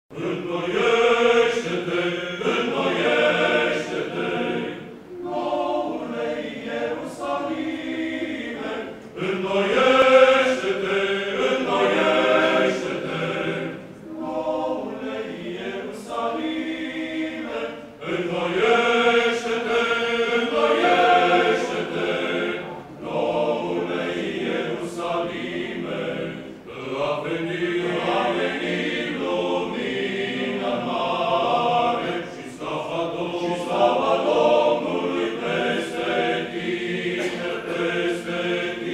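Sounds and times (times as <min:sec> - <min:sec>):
male choir singing chant: 0:00.1 - 0:38.9.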